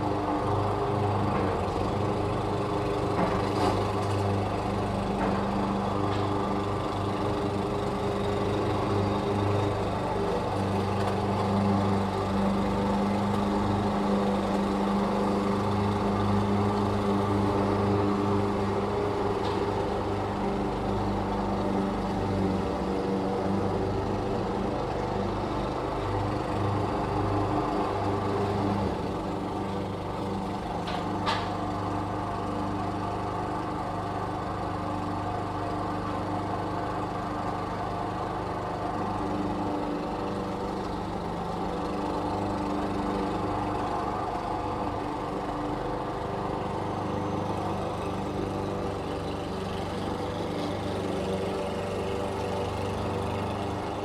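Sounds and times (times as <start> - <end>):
lawn mower engine running: 0.0 - 54.0.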